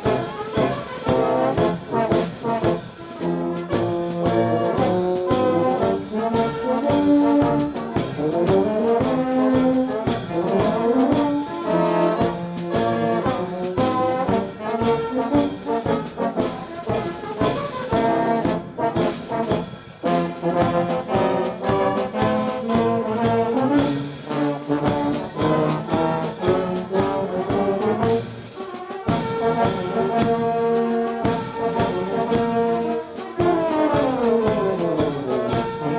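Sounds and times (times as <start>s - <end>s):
steady drum beat: 0.0s - 35.9s
trombones and trumpets playing: 0.0s - 35.9s.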